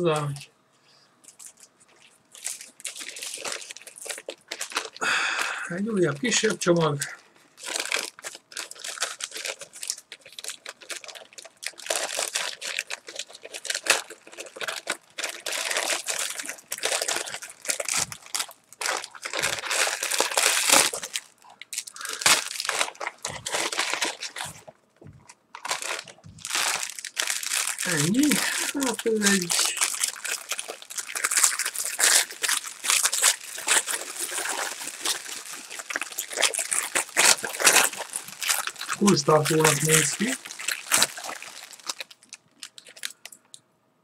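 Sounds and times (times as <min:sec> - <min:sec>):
packaging crinkling and tearing: 0:01.2 - 0:43.5.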